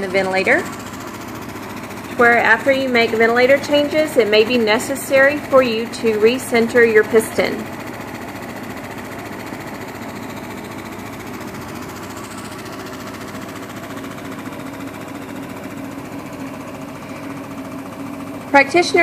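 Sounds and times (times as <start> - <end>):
ventilator mechanical buzz: 0.0 - 19.0.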